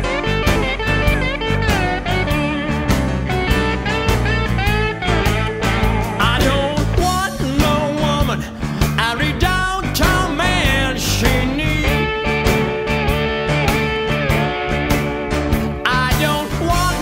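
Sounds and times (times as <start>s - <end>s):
electric guitar bending notes: 0.0s - 17.0s
rock music: 0.0s - 17.0s.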